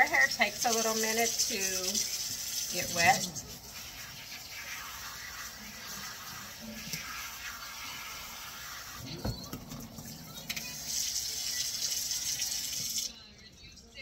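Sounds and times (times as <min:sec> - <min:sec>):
water pouring through hair: 0:00.0 - 0:13.1
water splashing into sink: 0:00.0 - 0:13.1.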